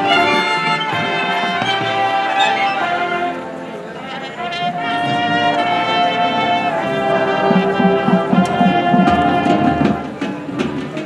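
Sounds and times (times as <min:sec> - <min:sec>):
brass sustained chord: 0:00.0 - 0:10.3
low brass short repeated notes: 0:00.0 - 0:11.0.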